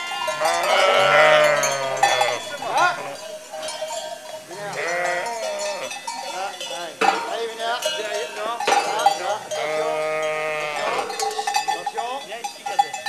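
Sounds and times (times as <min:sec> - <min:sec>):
sheep bleating: 0:00.0 - 0:12.9
sheep bells clanking: 0:00.0 - 0:13.0.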